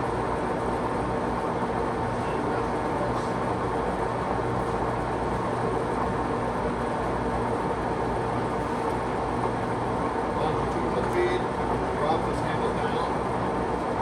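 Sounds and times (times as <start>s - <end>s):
lathe humming with gear whine: 0.0s - 14.0s.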